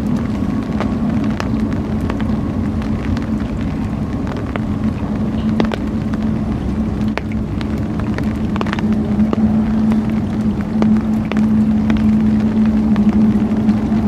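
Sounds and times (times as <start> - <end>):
low engine hum: 0.0 - 14.0
low rumble: 0.0 - 14.0.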